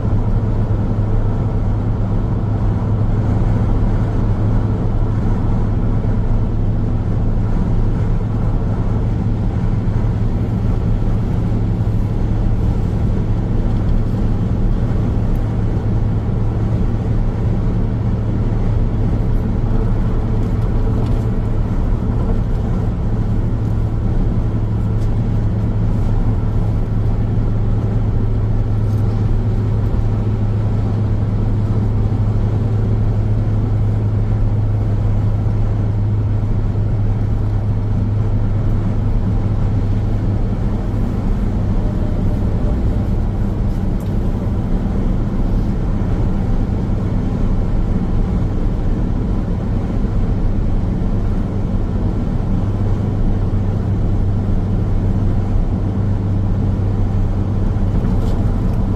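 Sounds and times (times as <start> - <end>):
car road noise: 0.0 - 58.9.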